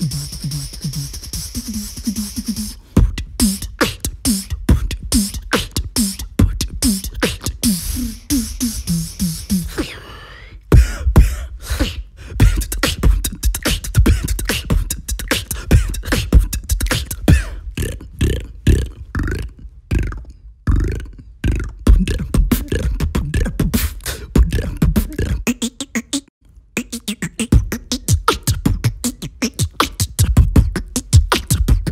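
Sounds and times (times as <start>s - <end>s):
human beatboxing: 0.0s - 31.9s
vocal gliding sound: 0.0s - 31.9s.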